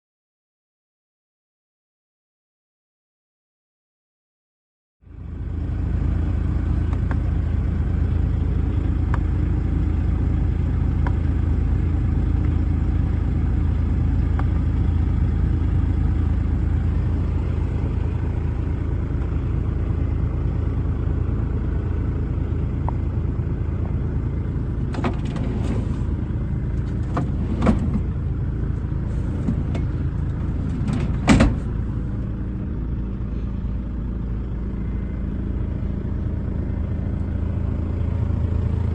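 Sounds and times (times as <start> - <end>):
diesel engine idling: 5.0 - 38.9.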